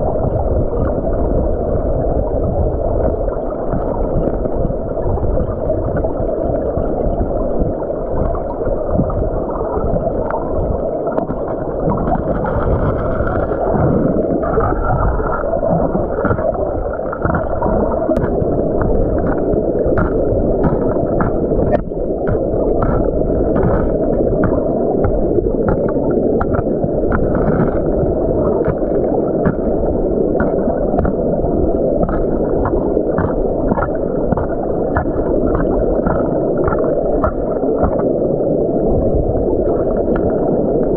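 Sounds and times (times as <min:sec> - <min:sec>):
underwater river rush and gurgle: 0:00.0 - 0:40.9.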